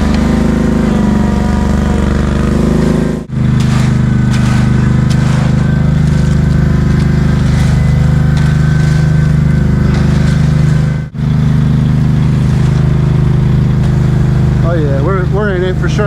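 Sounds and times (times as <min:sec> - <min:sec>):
heavy engine running: 0:00.0 - 0:16.0.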